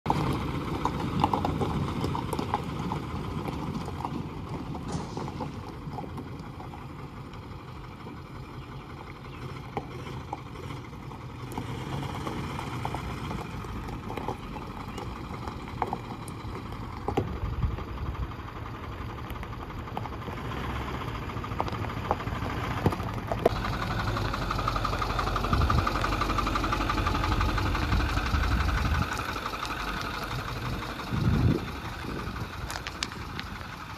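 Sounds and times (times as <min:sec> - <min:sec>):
pickup truck engine running: 0:00.1 - 0:33.9
tyres crunching on gravel: 0:00.1 - 0:33.9.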